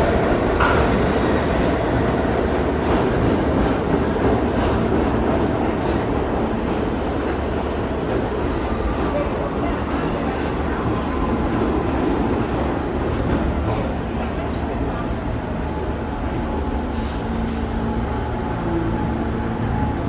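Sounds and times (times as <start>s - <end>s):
subway train running: 0.0s - 20.0s.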